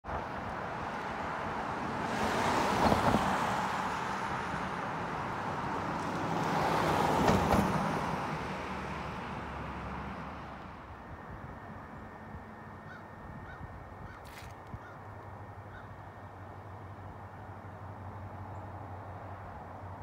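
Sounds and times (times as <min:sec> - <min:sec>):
steady road noise: 0:00.0 - 0:20.0
cars passing by: 0:00.1 - 0:20.0.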